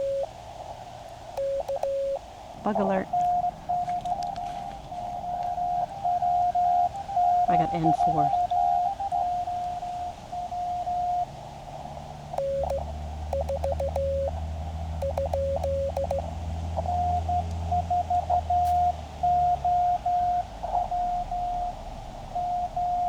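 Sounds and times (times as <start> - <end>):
lower-pitched morse signal: 0.0 - 0.4, 1.3 - 23.0
morse code tone: 0.0 - 0.4, 1.3 - 23.0
low steady rumble: 0.0 - 23.0.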